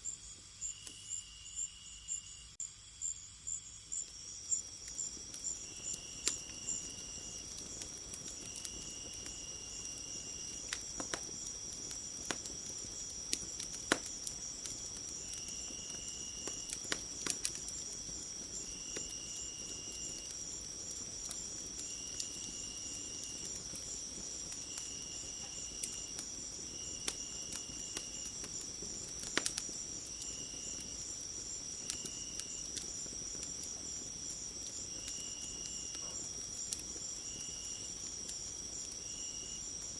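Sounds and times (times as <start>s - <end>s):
crickets trilling: 0.0s - 39.9s
wood fire crackling: 4.1s - 39.9s.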